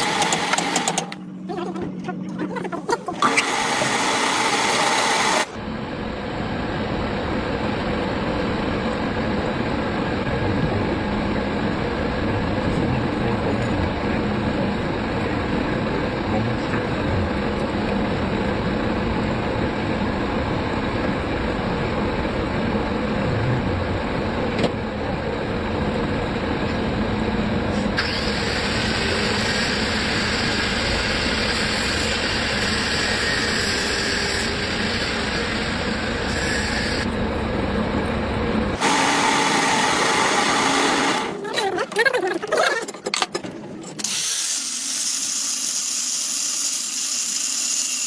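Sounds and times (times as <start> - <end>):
machine running with hum: 0.0 - 44.2.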